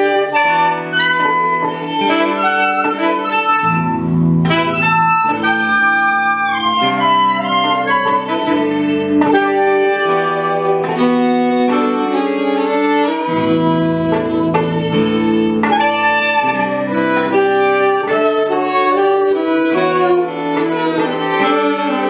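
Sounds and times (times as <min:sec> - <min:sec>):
saxophones: 0:00.0 - 0:22.0
viola: 0:00.0 - 0:22.0
violin: 0:00.0 - 0:22.0.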